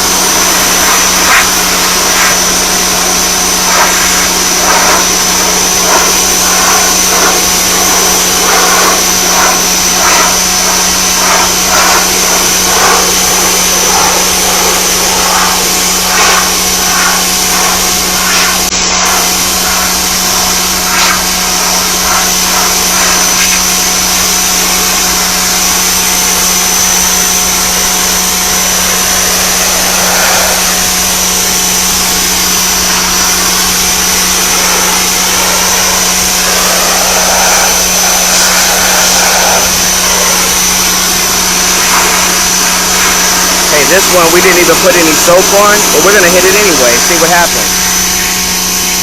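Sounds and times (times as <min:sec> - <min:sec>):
pressure washer running: 0:00.0 - 0:49.0
water jet hissing: 0:00.0 - 0:49.0.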